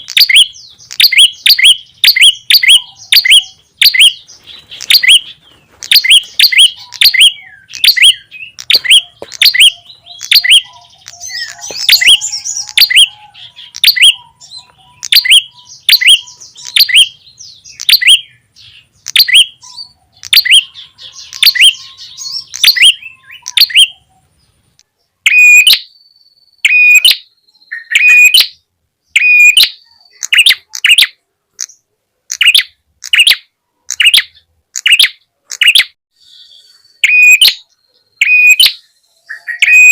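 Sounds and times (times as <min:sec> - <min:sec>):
bird chirps: 0:00.0 - 0:39.9
soft bird chatter: 0:00.0 - 0:39.9.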